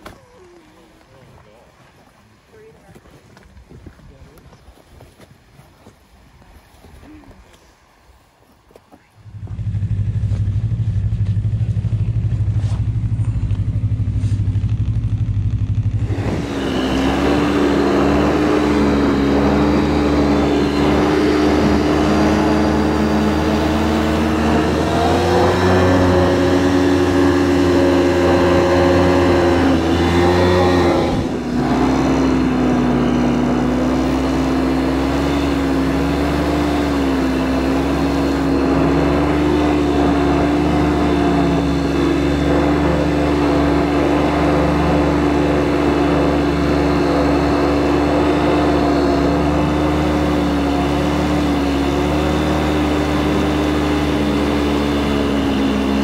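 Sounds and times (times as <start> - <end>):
snowmobile engine: 9.1 - 56.0.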